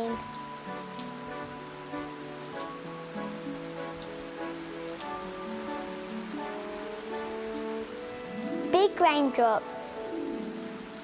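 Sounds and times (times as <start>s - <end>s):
rain falling steadily: 0.0s - 11.0s
raindrops pattering and splashing: 0.0s - 11.0s
soft music with long held notes: 0.0s - 11.0s.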